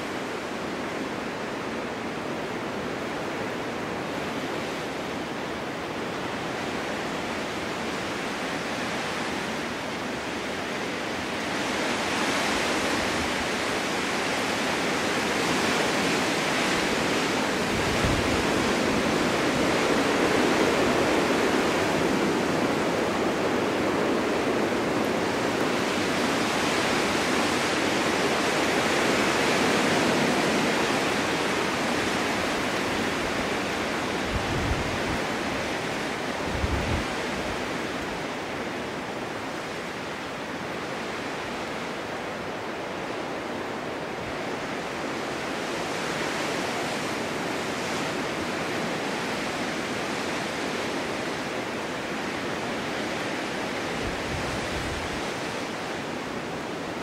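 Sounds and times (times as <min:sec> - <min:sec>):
wind blowing through forest: 0:00.0 - 0:57.0.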